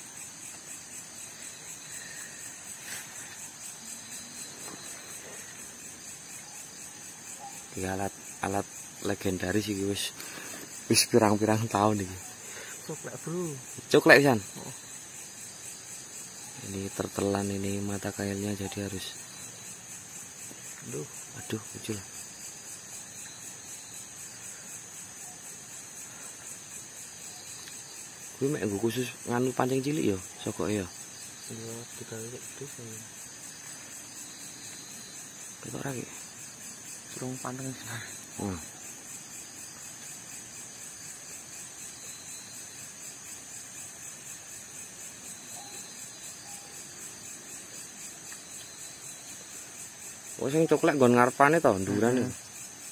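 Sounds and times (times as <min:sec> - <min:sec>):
crickets chirring: 0:00.0 - 0:52.9
low even hiss: 0:00.0 - 0:52.9
night insects chorus: 0:00.0 - 0:52.9.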